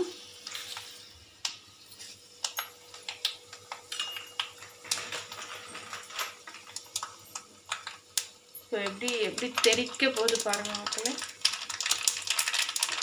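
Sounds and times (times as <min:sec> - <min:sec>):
seeds popping in hot oil: 0:00.0 - 0:13.0.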